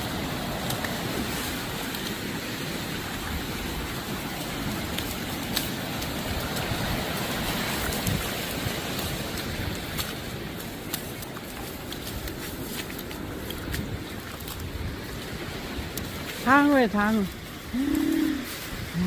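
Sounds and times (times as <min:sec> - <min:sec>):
surf washing on beach: 0:00.0 - 0:19.0.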